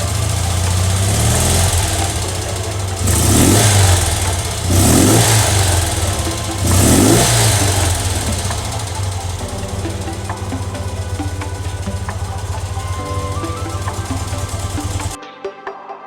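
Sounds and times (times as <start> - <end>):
motorcycle engine idling: 0.0 - 15.2
throttle blips: 0.0 - 15.2.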